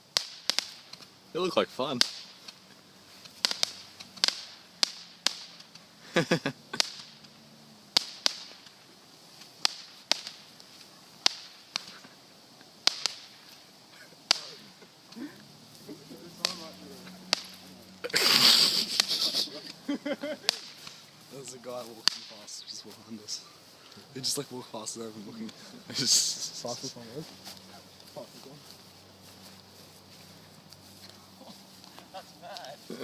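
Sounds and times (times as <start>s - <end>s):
fireworks cracking and banging: 0.0s - 33.0s.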